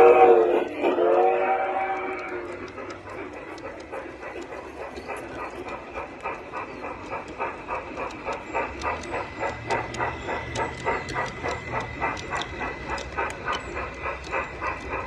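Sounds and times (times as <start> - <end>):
model steam train chuffing: 0.0 - 15.0.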